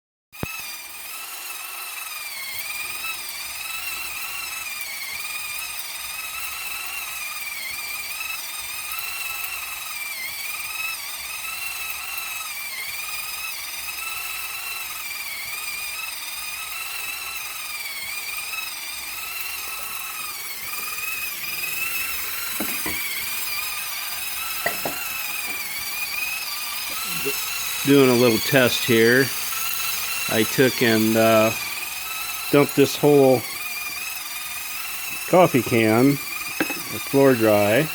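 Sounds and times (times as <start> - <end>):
small electric motor whining: 0.4 - 37.9.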